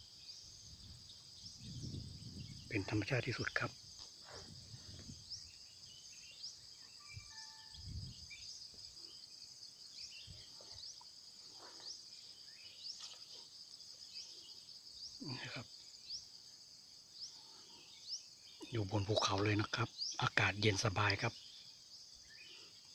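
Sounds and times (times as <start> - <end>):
rising insect chirps: 0.0 - 20.2
high-pitched insect chorus: 0.0 - 22.9.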